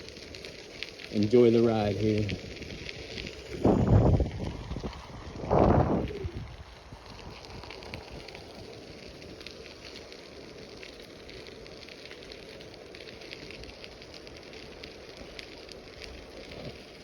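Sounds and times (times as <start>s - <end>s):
bicycle tyres crunching on gravel: 0.0s - 17.0s.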